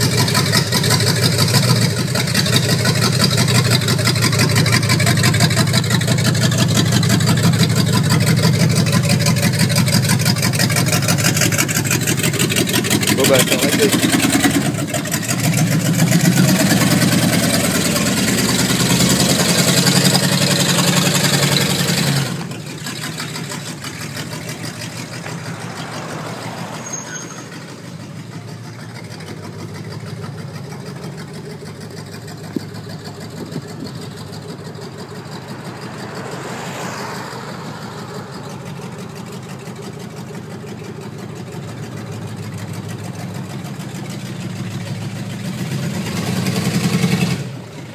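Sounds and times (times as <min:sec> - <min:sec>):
car engine running: 0:00.0 - 0:47.9
passing car: 0:00.0 - 0:47.9.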